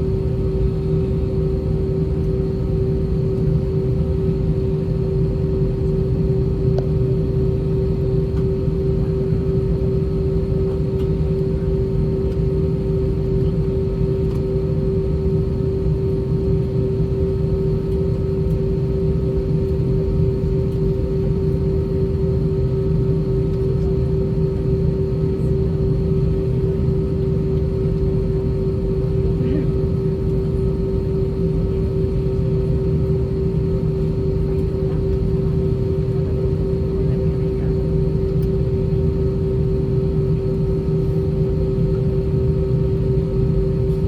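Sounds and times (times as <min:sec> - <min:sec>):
constant hum tone: 0:00.0 - 0:44.0
jet engines idling in cabin: 0:00.0 - 0:44.0.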